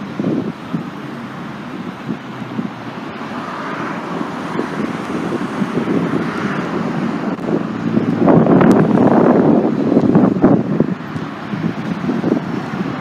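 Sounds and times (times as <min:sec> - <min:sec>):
cars driving along street: 0:00.0 - 0:13.0
wind buffeting microphone: 0:00.0 - 0:13.0.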